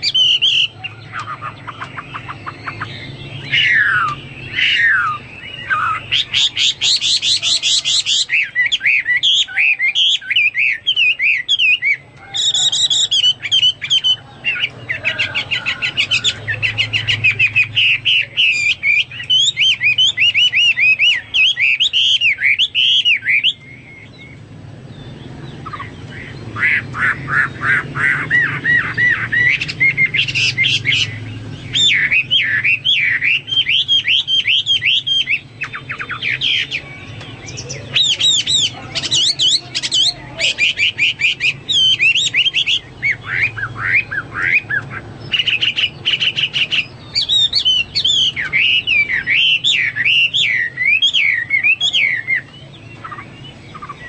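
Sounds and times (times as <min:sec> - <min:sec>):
bird singing whistled song: 0:00.0 - 0:54.0.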